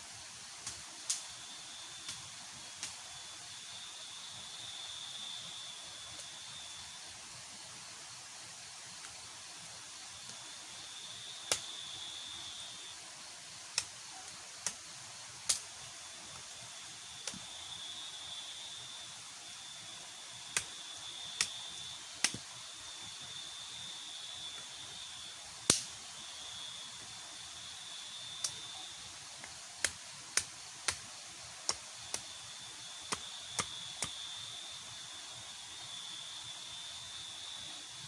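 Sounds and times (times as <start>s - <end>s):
night insects trilling: 0.2s - 38.0s.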